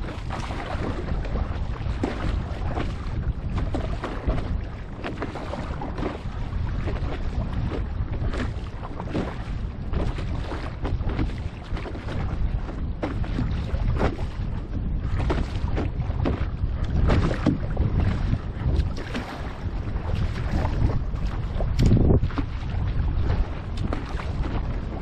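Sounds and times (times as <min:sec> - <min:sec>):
water splashing against board: 0:00.0 - 0:25.0
wind buffeting microphone: 0:00.0 - 0:25.0.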